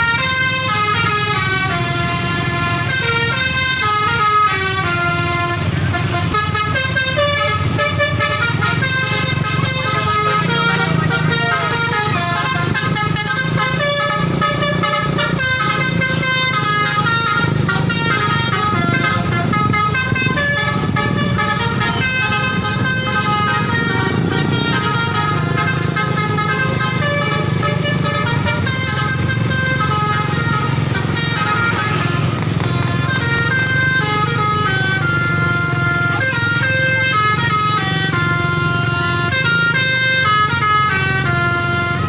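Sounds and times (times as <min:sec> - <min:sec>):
bus air horn melody: 0:00.0 - 0:42.0
bus engine hum: 0:00.0 - 0:42.0.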